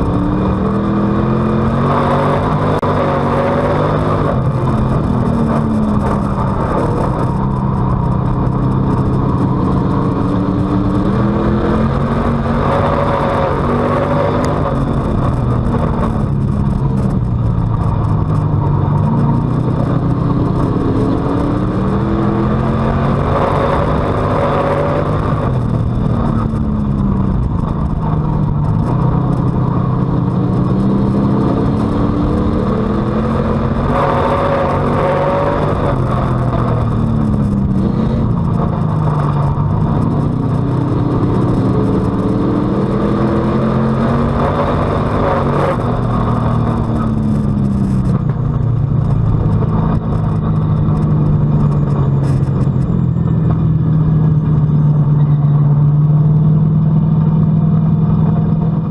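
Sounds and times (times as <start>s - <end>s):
race car engine accelerating: 0.0s - 58.9s.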